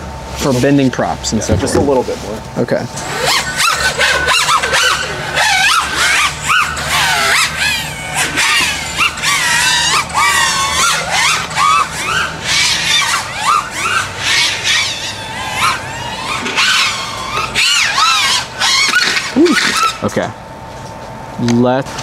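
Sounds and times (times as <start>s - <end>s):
drone motors whining: 0.0s - 20.3s.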